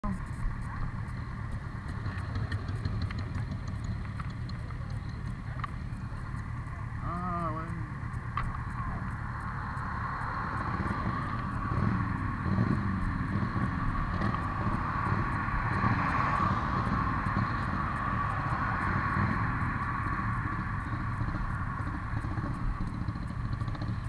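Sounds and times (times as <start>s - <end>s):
motorcycles idling: 0.0s - 24.0s.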